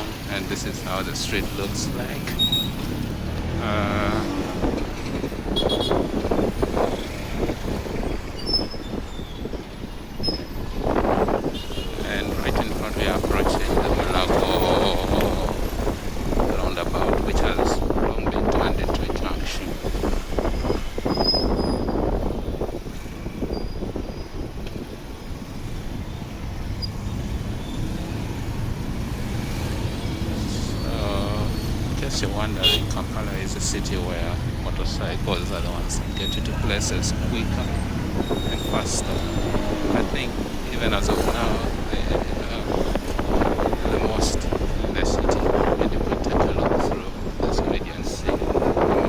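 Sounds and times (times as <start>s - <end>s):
motorcycle engine and road rumble: 0.0s - 49.0s
passing traffic: 0.0s - 49.0s.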